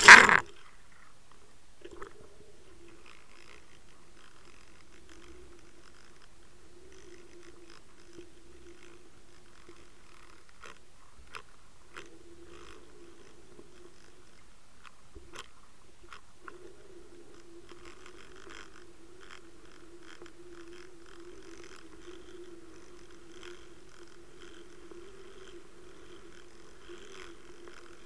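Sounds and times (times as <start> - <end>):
steady low underwater hum: 0.0 - 28.0
sharp clicks and crackles: 2.9 - 28.0.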